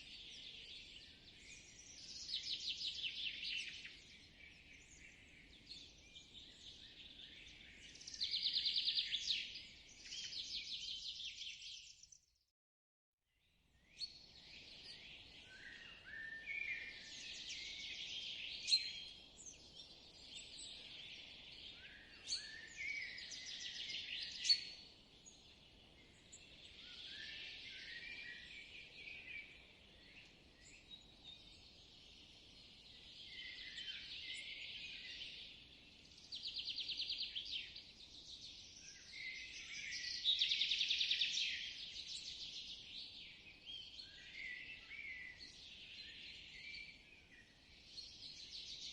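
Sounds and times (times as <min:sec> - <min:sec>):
birds singing: 0:00.0 - 0:12.2, 0:13.8 - 0:48.9.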